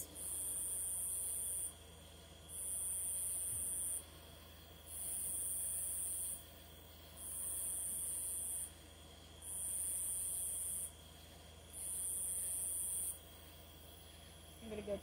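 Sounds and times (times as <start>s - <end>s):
insects buzzing in pulses: 0.0s - 15.0s.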